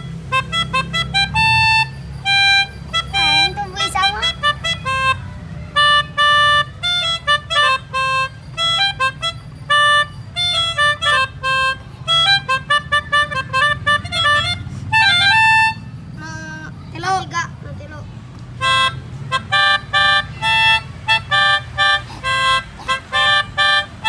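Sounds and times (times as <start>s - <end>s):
melodicas playing a tune: 0.0s - 17.4s, 18.4s - 24.0s.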